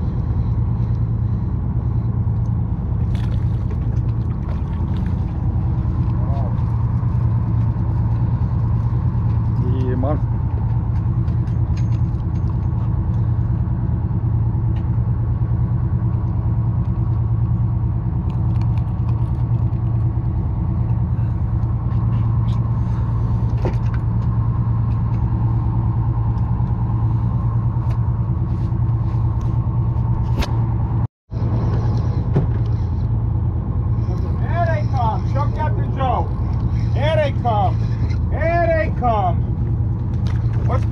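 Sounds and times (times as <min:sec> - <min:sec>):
boat engine idling: 0:00.0 - 0:18.3, 0:19.2 - 0:40.9.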